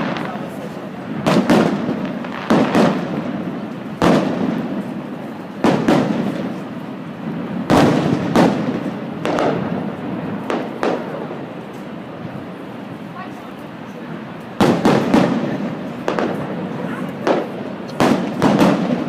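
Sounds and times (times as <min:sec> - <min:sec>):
fireworks bursting with echo: 0:00.0 - 0:19.0.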